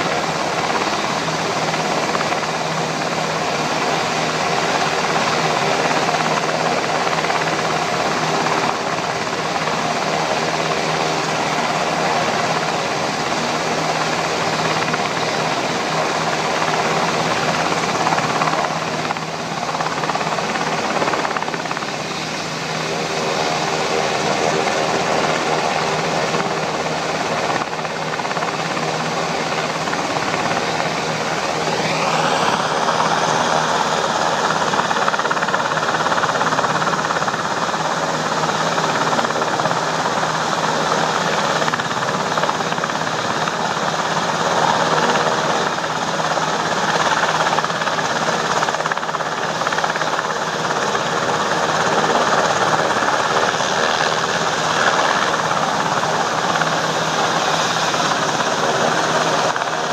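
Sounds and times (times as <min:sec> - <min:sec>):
helicopter rotor and turbine: 0:00.0 - 0:59.9.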